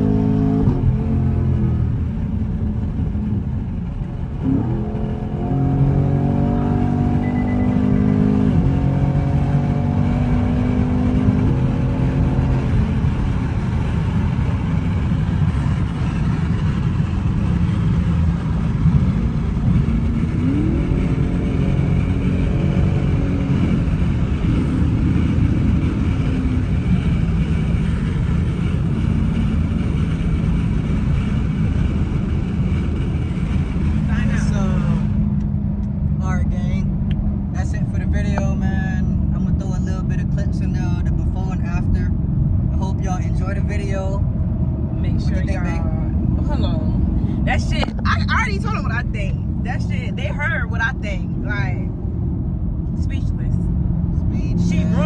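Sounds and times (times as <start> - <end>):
car engine revving while driving: 0.0 - 55.0.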